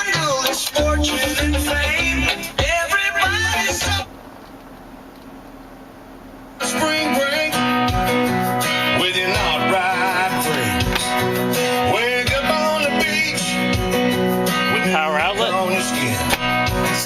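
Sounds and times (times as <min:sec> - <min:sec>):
country song on car stereo: 0:00.0 - 0:04.8, 0:06.4 - 0:17.0.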